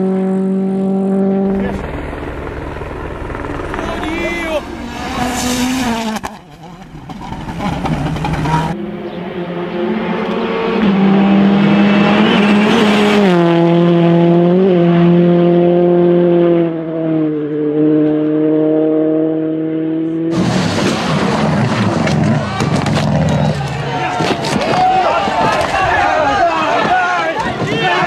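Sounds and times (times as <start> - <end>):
noisy car sound: 0.0 - 28.0
rally car engine revving: 0.0 - 28.0.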